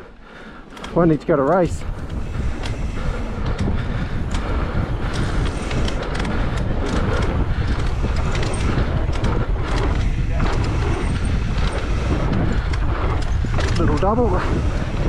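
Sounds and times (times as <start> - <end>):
bike knocking and rattling: 0.0 - 15.0
tyres rolling over dirt trail: 0.0 - 15.0
wind rushing over microphone: 0.0 - 15.0.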